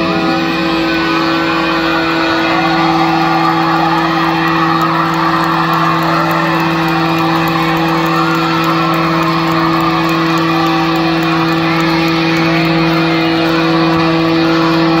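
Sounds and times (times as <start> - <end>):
crowd screaming and cheering: 0.0 - 15.0
live band low drone: 0.0 - 15.0.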